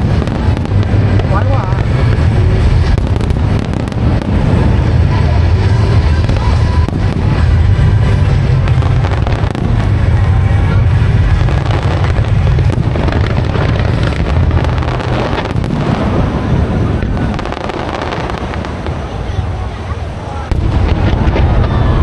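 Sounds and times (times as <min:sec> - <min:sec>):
fireworks bursting and crackling: 0:00.0 - 0:22.0
heavy low rumble: 0:00.0 - 0:22.0.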